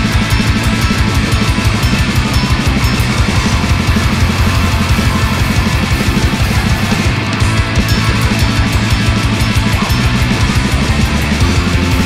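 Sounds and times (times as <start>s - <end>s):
heavy metal band playing: 0.0s - 12.0s.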